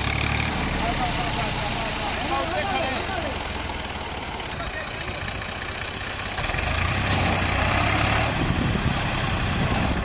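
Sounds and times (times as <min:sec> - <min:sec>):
diesel tractor engine running: 0:00.0 - 0:10.0.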